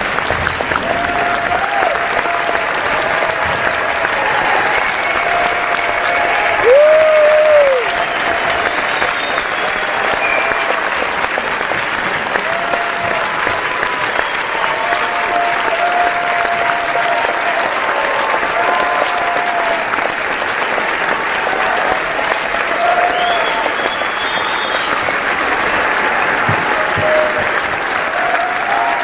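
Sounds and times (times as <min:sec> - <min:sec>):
cheers: 0:00.0 - 0:29.0
crowd applauding: 0:00.0 - 0:29.0.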